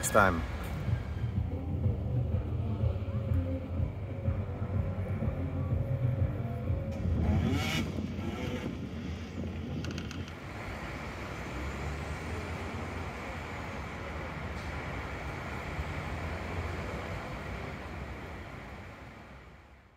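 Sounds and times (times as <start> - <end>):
road traffic noise: 0.0 - 19.9.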